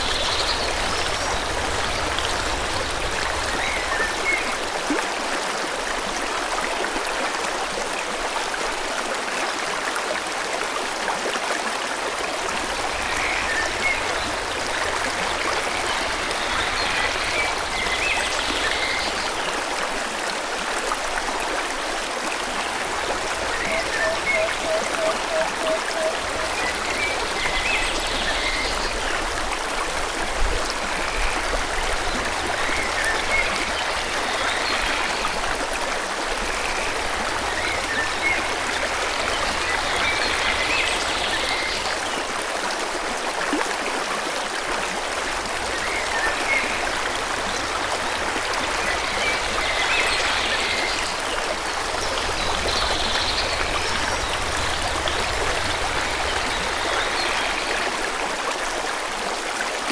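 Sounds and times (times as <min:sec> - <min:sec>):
river flowing: 0:00.0 - 0:59.9.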